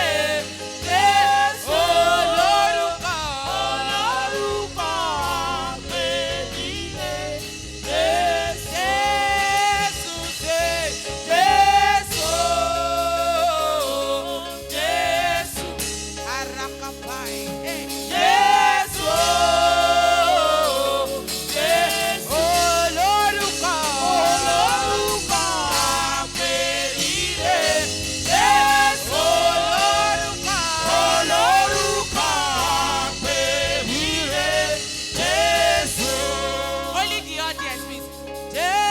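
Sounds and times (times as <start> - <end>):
band accompaniment: 0.0 - 38.9
gospel choir singing: 0.0 - 38.9.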